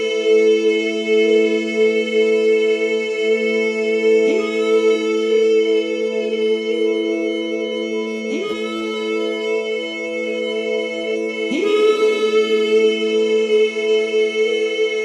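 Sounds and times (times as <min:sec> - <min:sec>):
slow droning meditative music: 0:00.0 - 0:15.0.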